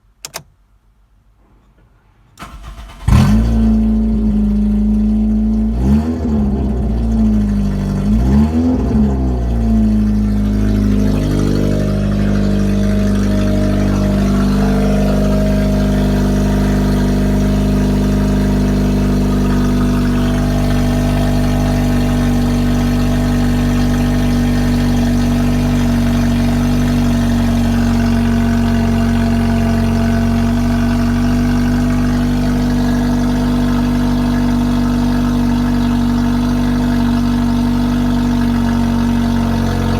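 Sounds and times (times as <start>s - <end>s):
car engine starting and revving: 2.4s - 39.9s.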